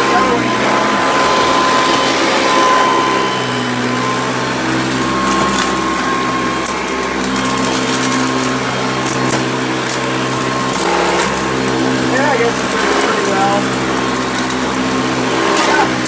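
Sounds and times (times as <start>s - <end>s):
vacuum cleaner motor hum: 0.0s - 16.0s
debris clicking in vacuum fan: 1.4s - 16.0s.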